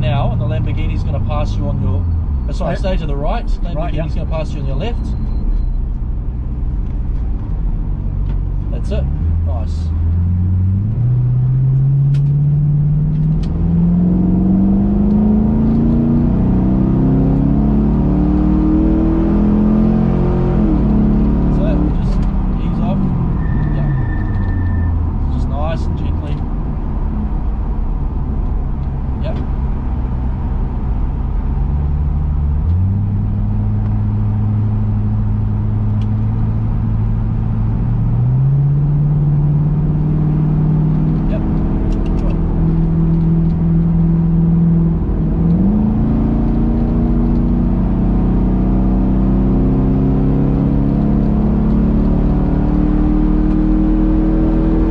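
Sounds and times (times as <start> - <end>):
car engine accelerating: 0.0 - 54.9.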